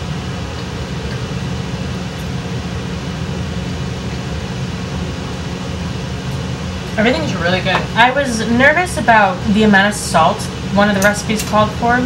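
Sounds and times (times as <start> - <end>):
heating system hum and rush: 0.0 - 12.0.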